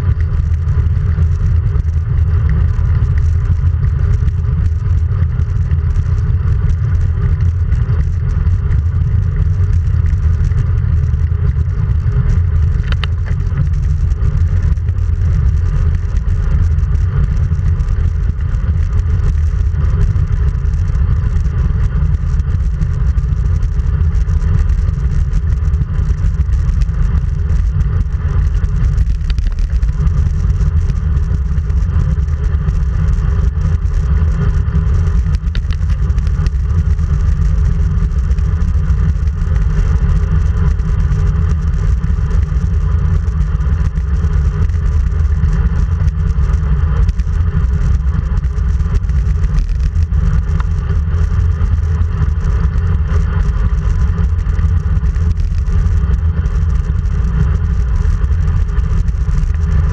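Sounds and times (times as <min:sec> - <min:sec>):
wind rumble on microphone: 0:00.0 - 0:59.9
tyres rolling on asphalt: 0:00.1 - 0:59.9.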